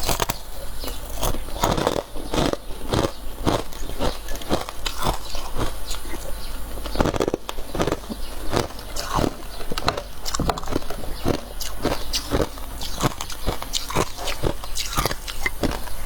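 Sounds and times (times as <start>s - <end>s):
frost being chewed: 0.0s - 16.0s.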